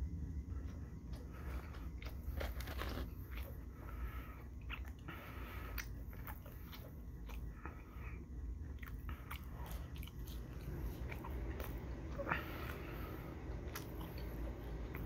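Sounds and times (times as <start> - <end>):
low steady hum: 0.0 - 15.0
person chewing: 0.6 - 15.0.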